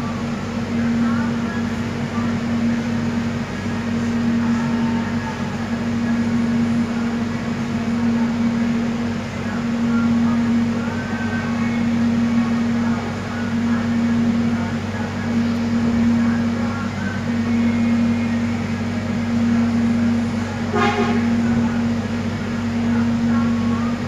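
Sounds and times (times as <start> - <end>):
electric train running: 0.0 - 24.0.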